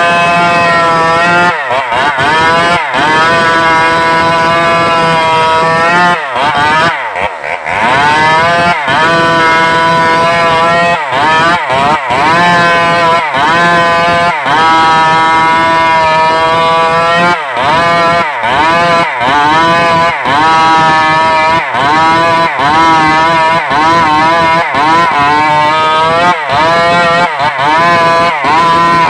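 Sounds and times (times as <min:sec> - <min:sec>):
chainsaw running at high revs: 0:00.0 - 0:29.0.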